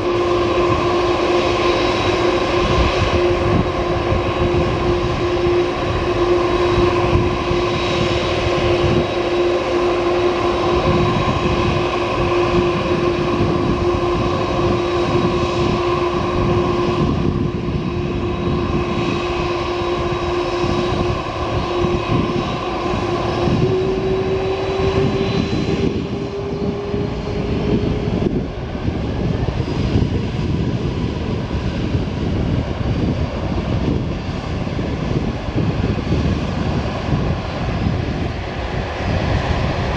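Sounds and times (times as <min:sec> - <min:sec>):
jet engine whine: 0:00.0 - 0:39.9
jet engines roaring: 0:00.0 - 0:39.9.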